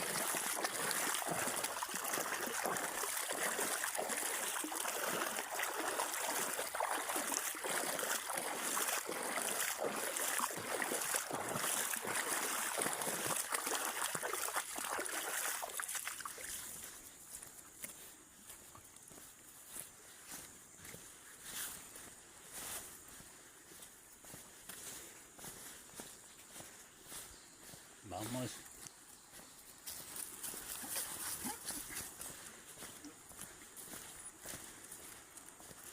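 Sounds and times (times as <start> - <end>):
water splashing and trickling: 0.0 - 23.8, 29.8 - 35.9.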